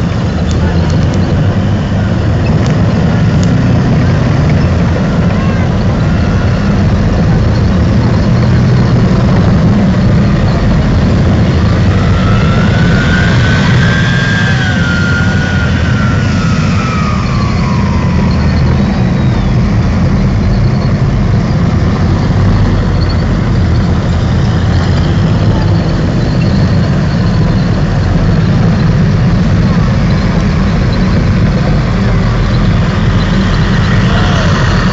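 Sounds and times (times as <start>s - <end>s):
rising and falling whine: 0.0s - 34.9s
tracked vehicles rumbling past: 0.0s - 34.9s.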